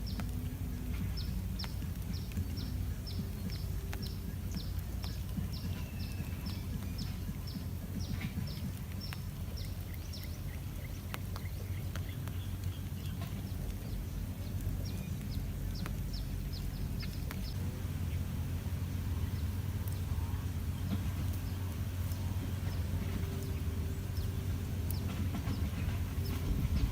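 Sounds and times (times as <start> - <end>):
birds chirping: 0.0 - 26.9
steady low rumble: 0.0 - 26.9.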